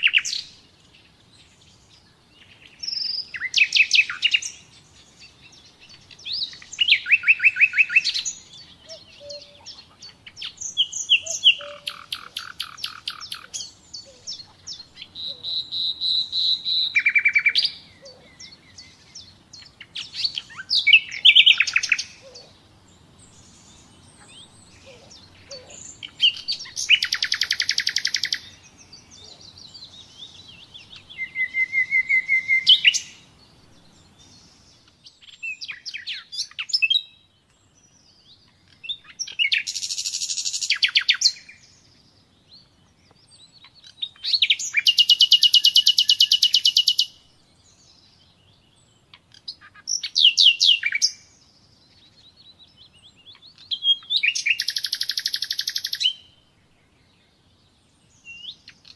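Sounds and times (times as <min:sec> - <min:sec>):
nightingale singing: 0:00.0 - 0:58.9.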